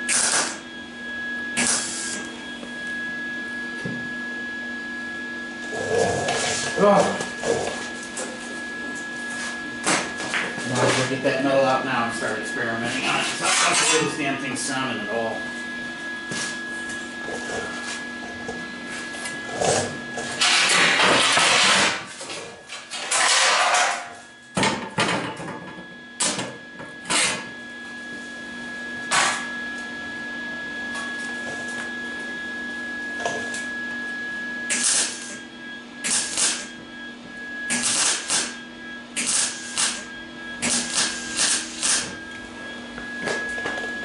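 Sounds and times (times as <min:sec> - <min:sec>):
electrical hum: 0:00.0 - 0:44.0
faint high whine: 0:00.0 - 0:44.0.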